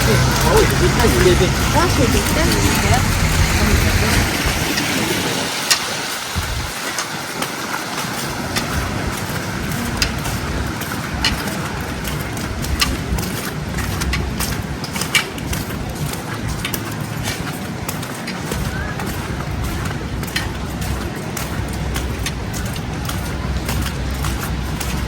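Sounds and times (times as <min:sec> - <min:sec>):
city noise: 0:00.0 - 0:25.0
footsteps crunching in snow: 0:00.0 - 0:25.0
sharp clicks and crackles: 0:00.0 - 0:25.0.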